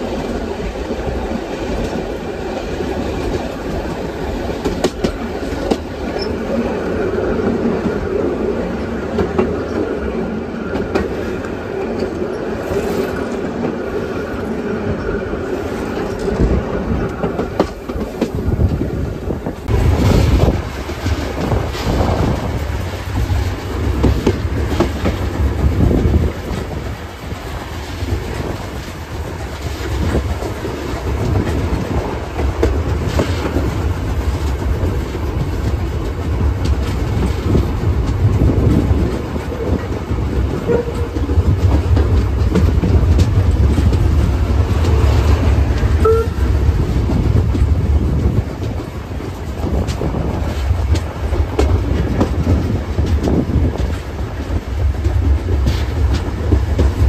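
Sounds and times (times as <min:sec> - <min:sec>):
train coaches rumbling: 0:00.0 - 0:57.0.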